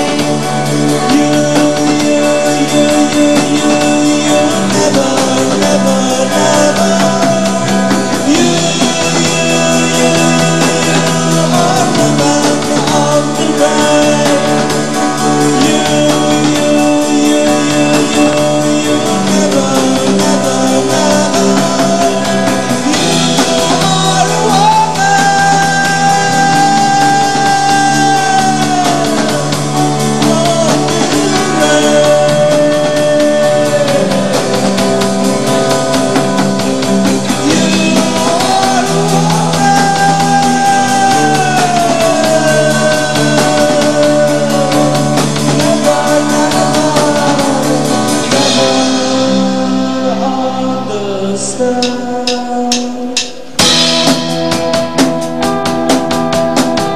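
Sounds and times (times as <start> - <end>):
bass guitar: 0.0 - 56.9
drums: 0.0 - 56.9
electric guitar: 0.0 - 56.9
keyboards: 0.0 - 56.9.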